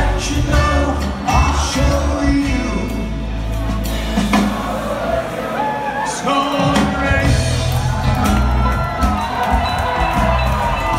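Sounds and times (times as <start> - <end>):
live band playing: 0.0 - 10.9.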